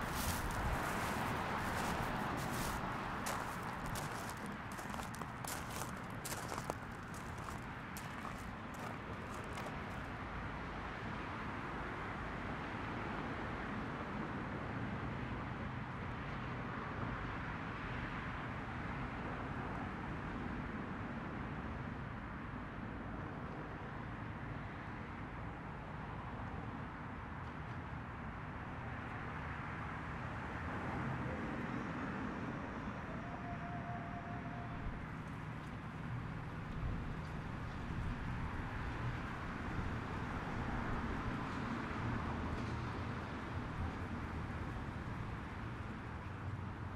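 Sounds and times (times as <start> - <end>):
distant traffic hum: 0.0 - 46.9.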